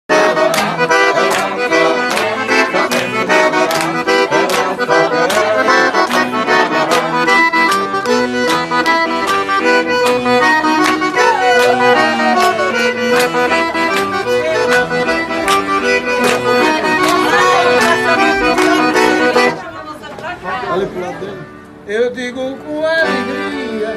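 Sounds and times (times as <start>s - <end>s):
accordion playing a tune: 0.1s - 23.9s.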